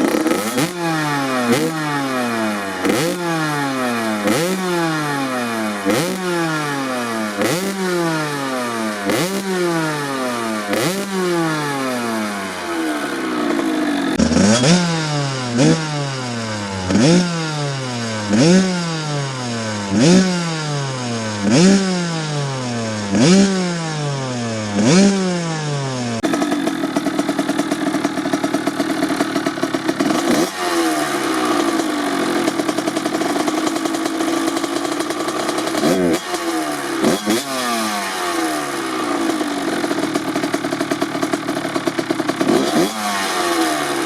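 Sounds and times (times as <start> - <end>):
two-stroke engine revving: 0.0 - 44.0.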